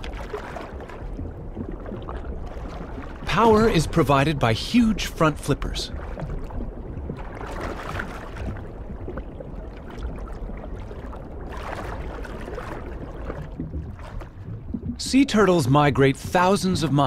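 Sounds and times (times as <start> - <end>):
muffled underwater water rush: 0.0 - 17.0.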